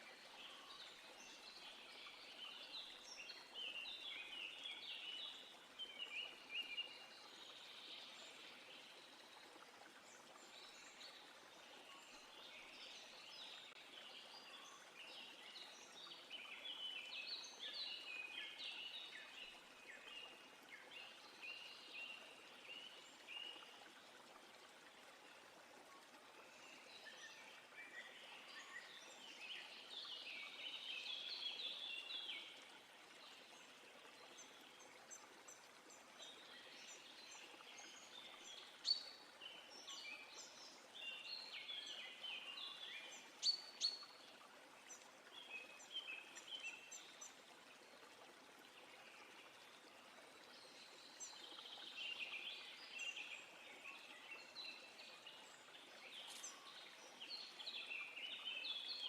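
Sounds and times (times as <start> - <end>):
running water: 0.0 - 59.0
songbirds chirping: 0.0 - 59.0.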